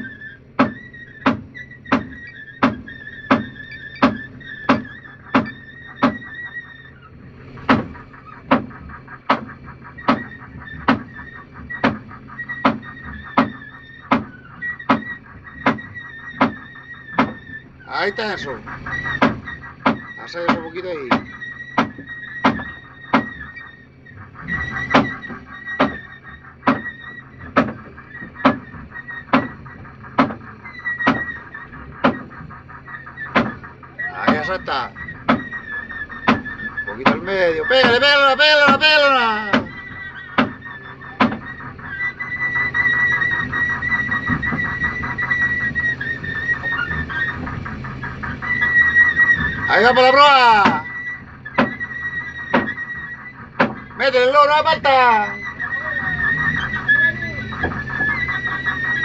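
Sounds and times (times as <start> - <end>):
steady low hum: 0.0 - 59.0
wavering high tone: 10.1 - 59.0.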